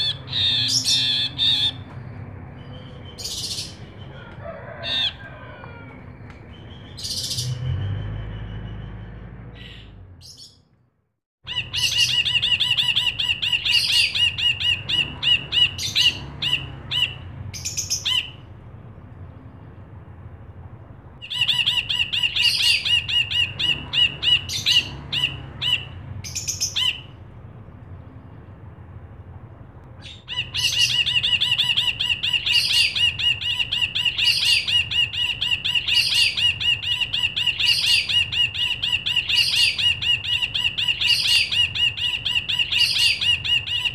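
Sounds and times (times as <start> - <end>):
bird chattering song: 0.0 - 5.2, 6.2 - 10.6, 11.4 - 18.4, 21.2 - 27.2, 30.0 - 43.9.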